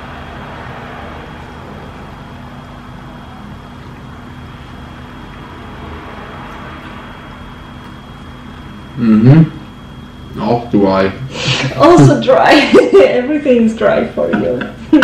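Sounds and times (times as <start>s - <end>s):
room tone hum and hiss: 0.0s - 15.0s.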